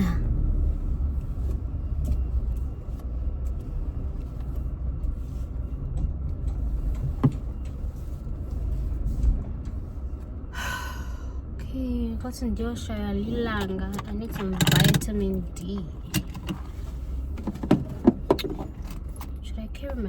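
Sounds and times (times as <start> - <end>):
car cabin rumble: 0.0 - 20.0.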